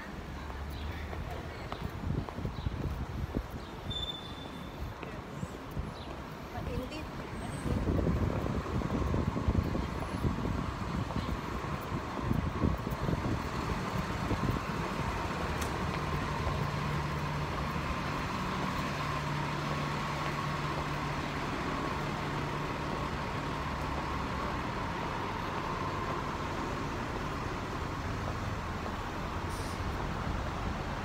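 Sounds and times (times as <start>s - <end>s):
road noise: 0.0s - 31.0s
vehicle engine hum: 0.0s - 31.0s.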